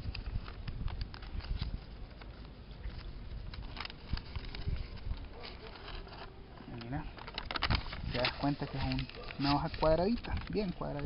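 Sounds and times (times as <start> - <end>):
stiff paper crackling and rustling: 0.0 - 11.0.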